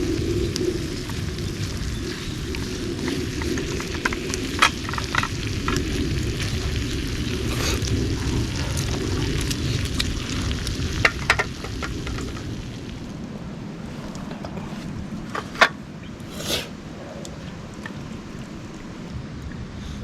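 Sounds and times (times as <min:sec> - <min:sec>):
low rumble: 0:00.0 - 0:16.0
campfire crackling: 0:00.0 - 0:20.0
fire popping: 0:00.0 - 0:20.0.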